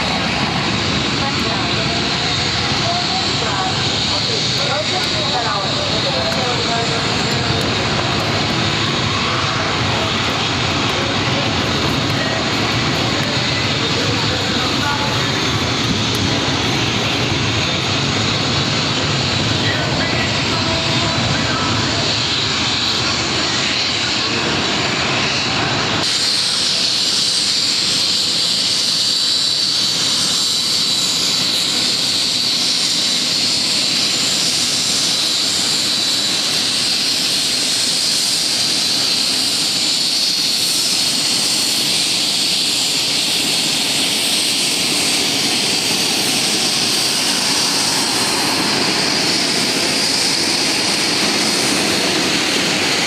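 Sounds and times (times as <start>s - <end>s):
helicopter engines and rotor: 0.0s - 53.0s.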